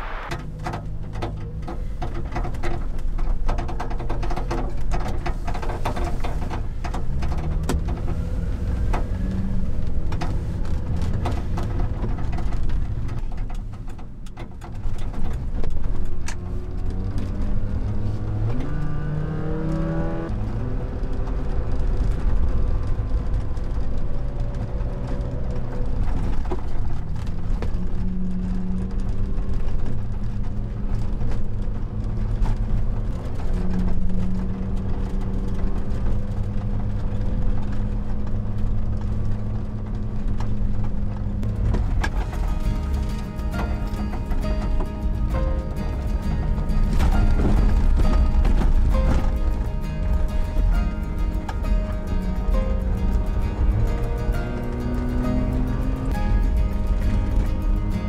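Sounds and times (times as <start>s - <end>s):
road noise: 0.0s - 58.0s
small truck engine: 0.0s - 58.0s
knocks and rattles: 0.3s - 18.7s, 21.8s - 58.0s.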